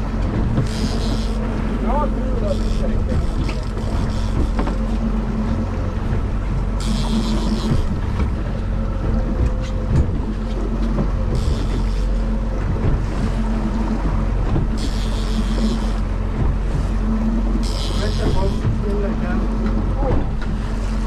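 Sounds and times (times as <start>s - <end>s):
boat engine running: 0.0s - 21.0s
water noise: 0.0s - 21.0s
wind: 0.0s - 21.0s.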